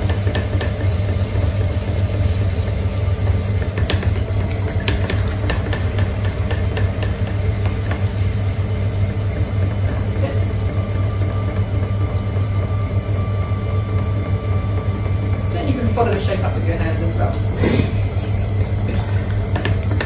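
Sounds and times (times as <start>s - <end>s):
potter's wheel motor humming: 0.0s - 20.0s.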